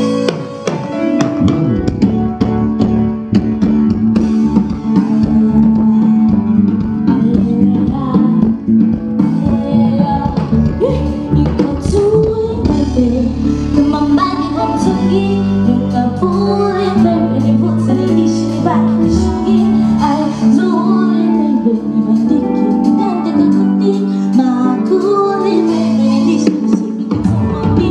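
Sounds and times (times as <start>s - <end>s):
guitar: 0.0s - 27.9s
woman singing: 4.9s - 27.9s.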